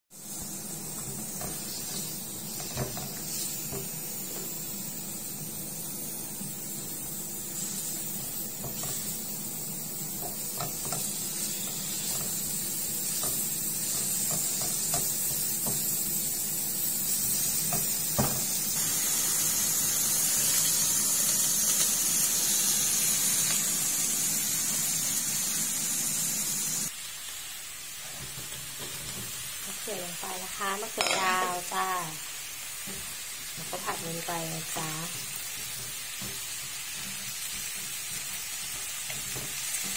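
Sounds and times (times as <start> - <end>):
meat sizzling in a frying pan: 0.1 - 39.9.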